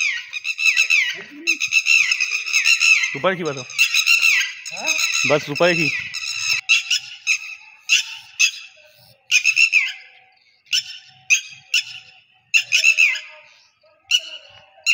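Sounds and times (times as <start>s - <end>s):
bird calling high notes: 0.0s - 14.9s.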